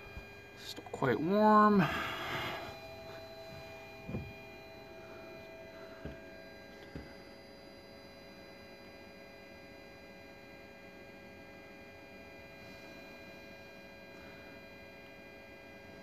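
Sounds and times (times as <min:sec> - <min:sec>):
faint steady electrical hum: 0:00.0 - 0:16.0.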